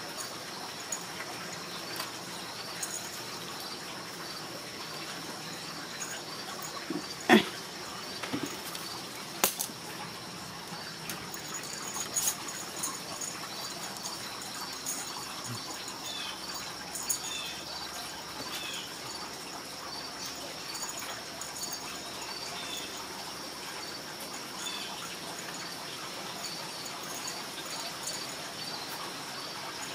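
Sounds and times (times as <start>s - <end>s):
insect chirping: 0.0s - 29.9s
insect chorus trilling: 0.0s - 29.9s.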